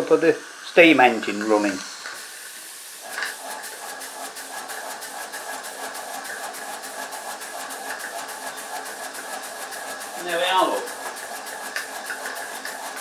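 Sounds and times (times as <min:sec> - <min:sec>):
model steam engine running: 0:00.0 - 0:13.0
steam hissing: 0:00.0 - 0:13.0.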